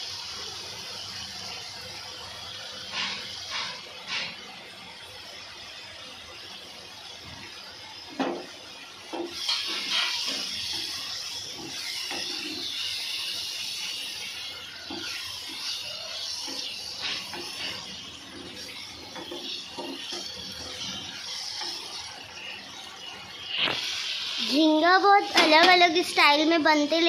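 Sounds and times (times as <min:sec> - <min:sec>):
prawns sizzling and bubbling: 0:00.0 - 0:27.0.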